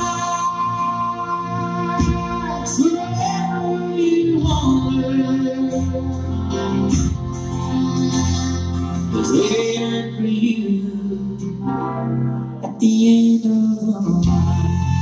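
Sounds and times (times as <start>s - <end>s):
singing voice: 0.0s - 6.7s, 7.7s - 11.7s, 12.6s - 15.0s.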